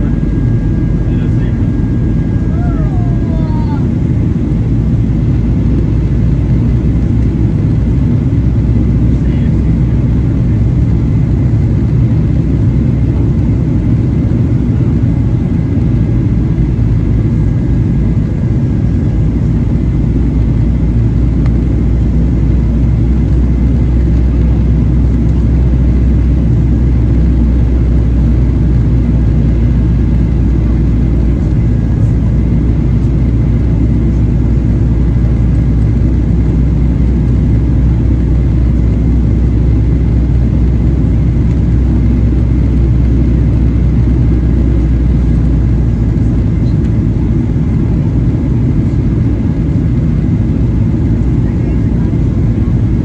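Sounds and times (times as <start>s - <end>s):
airflow rumble over fuselage: 0.0s - 53.0s
jet engines droning: 0.0s - 53.0s.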